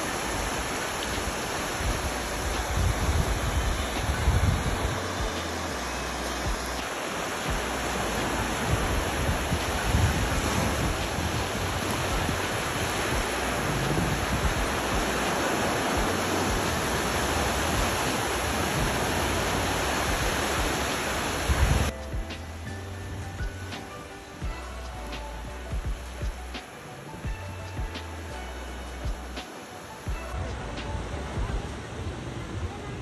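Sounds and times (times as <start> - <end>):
surf washing onto beach: 0.0 - 22.7, 23.4 - 33.0
wind rumbling on microphone: 0.0 - 29.4, 30.0 - 33.0.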